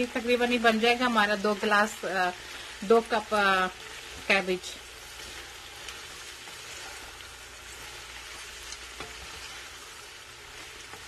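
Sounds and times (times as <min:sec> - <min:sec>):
cabbage sizzling in oil: 0:00.0 - 0:11.0
wooden spatula scraping: 0:00.0 - 0:11.0.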